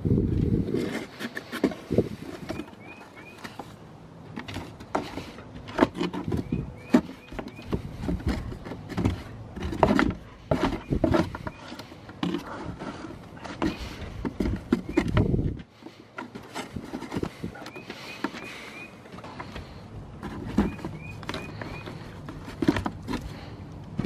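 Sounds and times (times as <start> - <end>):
dog pawing at cardboard box: 0.8 - 23.6
cardboard knocks and scrapes: 4.3 - 24.0.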